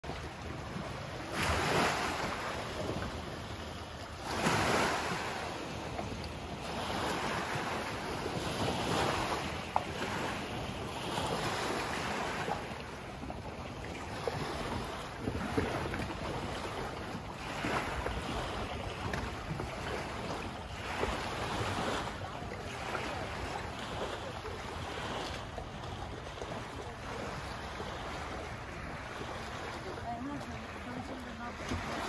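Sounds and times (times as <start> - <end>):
water rushing past boat: 0.0 - 32.0.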